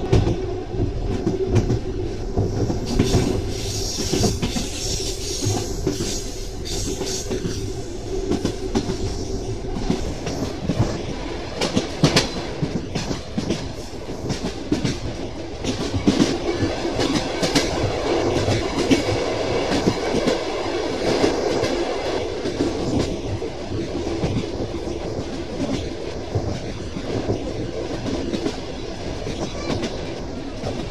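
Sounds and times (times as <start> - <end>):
train wheels clattering on track: 0.0 - 30.9.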